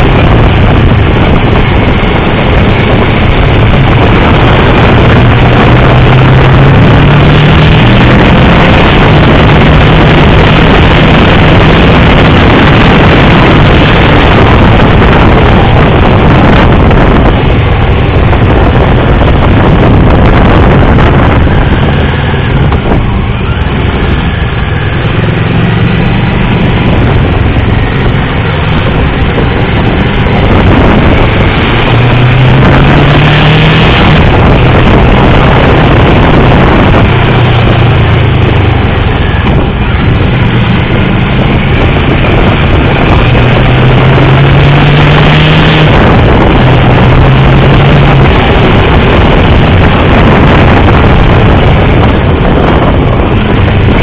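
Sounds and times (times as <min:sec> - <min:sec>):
motorcycle engine: 0:00.0 - 0:54.0
wind rushing on microphone: 0:00.0 - 0:54.0.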